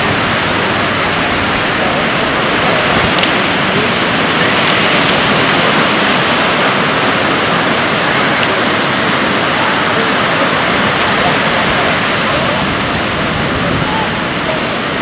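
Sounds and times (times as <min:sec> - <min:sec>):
surf breaking over rocks: 0:00.0 - 0:15.0.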